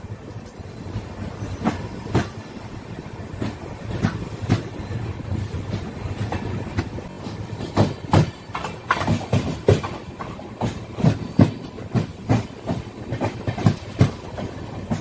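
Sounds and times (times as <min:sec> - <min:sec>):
train running rumble: 0:00.0 - 0:15.0
train wheels clattering over joints: 0:00.4 - 0:15.0.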